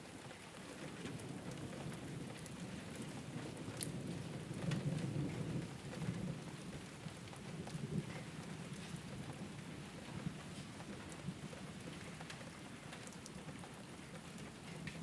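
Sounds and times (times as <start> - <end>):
rain on a roof: 0.0 - 15.0.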